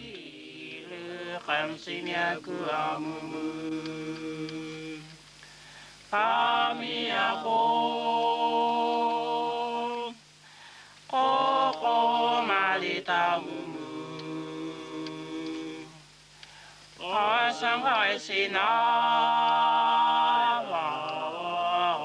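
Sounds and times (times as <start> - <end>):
voices chanting long held notes: 0.0 - 5.2, 6.1 - 10.2, 11.1 - 16.1, 17.0 - 22.0.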